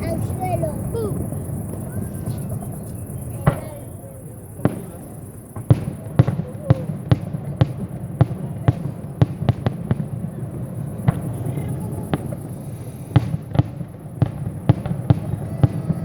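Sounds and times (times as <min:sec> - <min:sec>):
firework shells bursting: 0:00.0 - 0:16.0.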